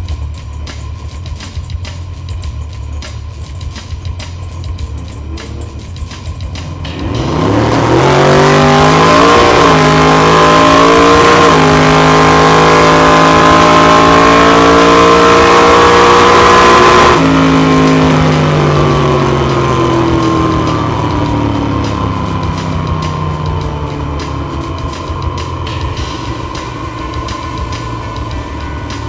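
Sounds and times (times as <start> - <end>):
drag car engine at full throttle: 0.0 - 29.0.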